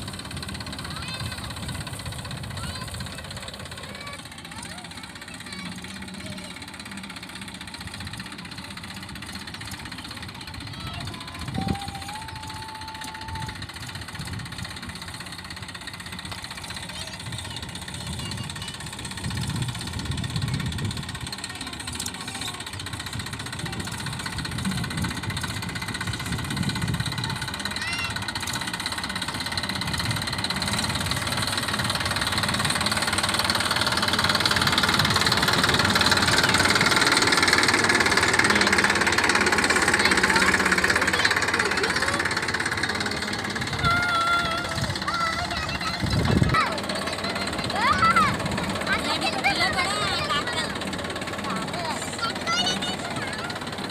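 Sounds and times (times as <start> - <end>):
threshing machine engine running: 0.0 - 53.9.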